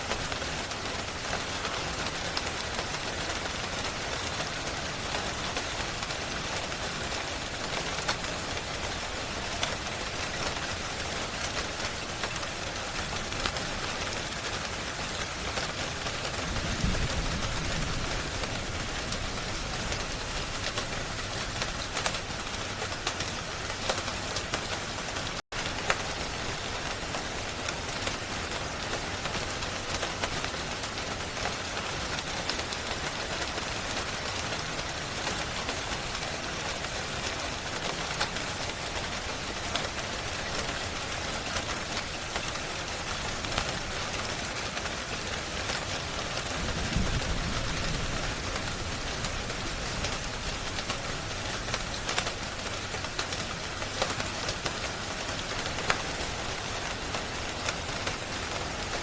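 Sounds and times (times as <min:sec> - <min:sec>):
small crackles: 0:00.0 - 0:59.0
steady rain hiss: 0:00.0 - 0:59.0.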